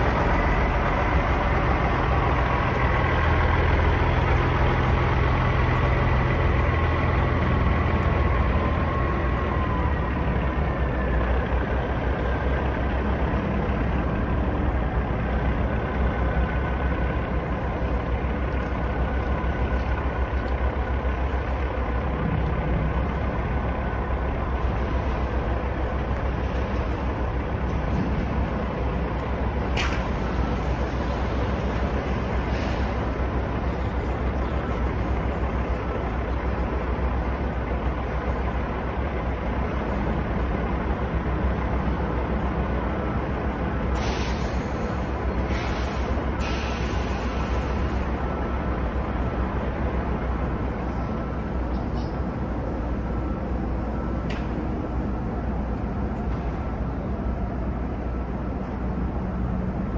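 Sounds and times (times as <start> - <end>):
truck diesel engine idling: 0.0 - 59.9.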